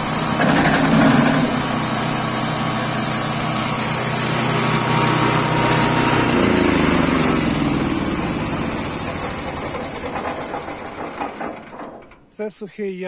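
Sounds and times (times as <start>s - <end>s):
branch chopper petrol engine running: 0.0s - 12.3s.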